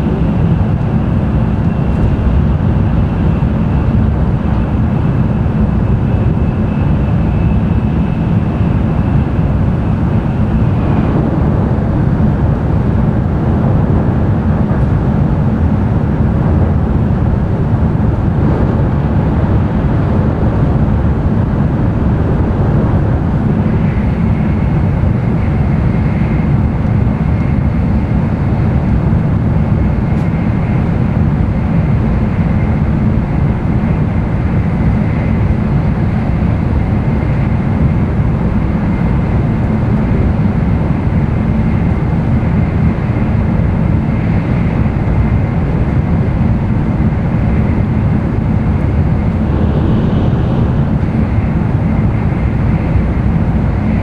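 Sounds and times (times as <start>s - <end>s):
train cabin rumble: 0.0s - 42.4s, 44.1s - 54.0s.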